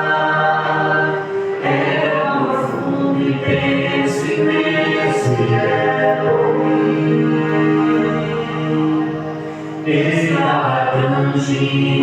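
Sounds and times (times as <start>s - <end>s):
worship hymn with singing voices: 0.0s - 12.0s.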